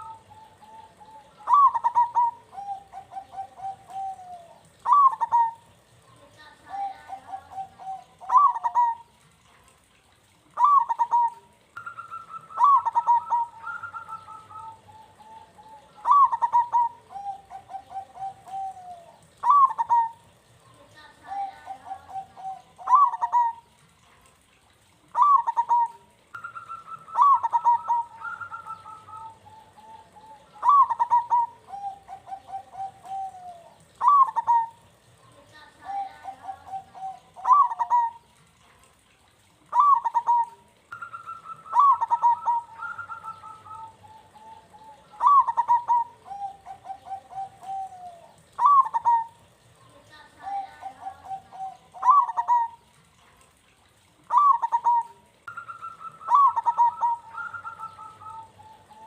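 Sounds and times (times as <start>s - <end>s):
dove cooing song: 0.0s - 59.0s.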